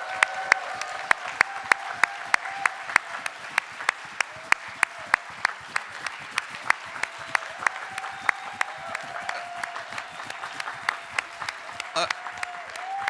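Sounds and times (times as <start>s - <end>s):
audience applauding: 0.0s - 13.0s
loud evenly spaced claps: 0.0s - 13.0s.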